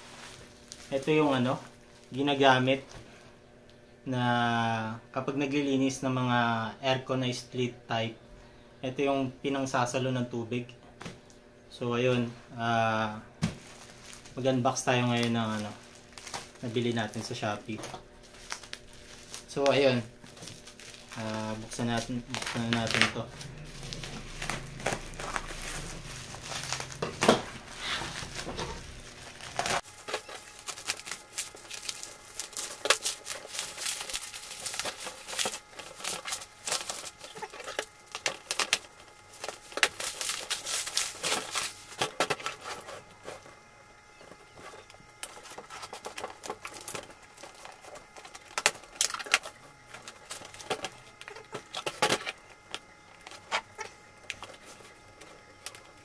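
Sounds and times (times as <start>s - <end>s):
bubble wrap crinkling: 0.0s - 2.4s, 13.4s - 56.0s.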